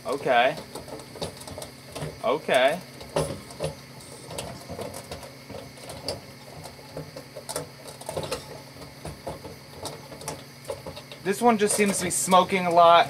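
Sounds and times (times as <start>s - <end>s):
light bulb arcing crackles and pops: 0.0s - 13.0s
microwave oven humming: 0.0s - 13.0s.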